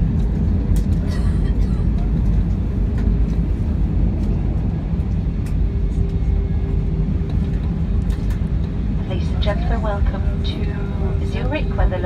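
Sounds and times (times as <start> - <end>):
aircraft engines low rumble: 0.0 - 12.0.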